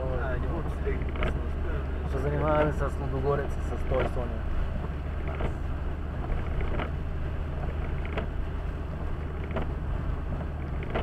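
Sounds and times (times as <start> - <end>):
car engine and tyre hum: 0.0 - 11.0
windscreen wipers sweeping: 0.0 - 11.0.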